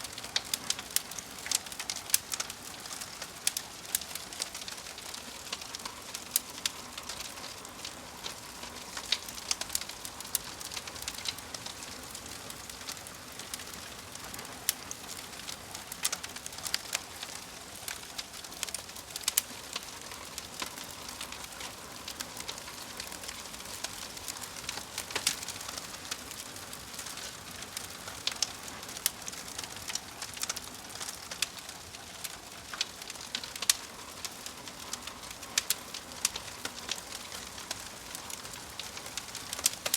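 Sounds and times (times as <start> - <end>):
steady hiss: 0.0 - 39.9
wood fire crackling: 0.0 - 39.9.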